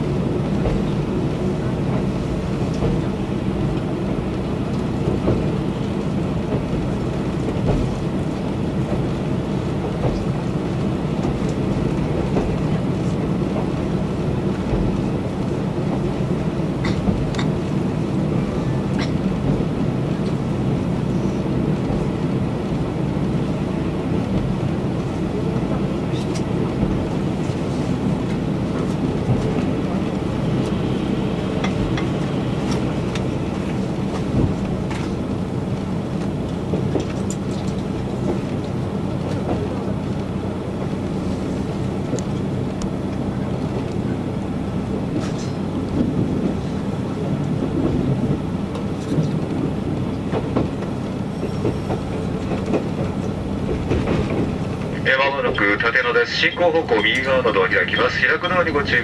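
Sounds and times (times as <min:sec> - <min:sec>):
diesel engine drone: 0:00.0 - 0:59.0
rail joint clicks: 0:00.0 - 0:59.0.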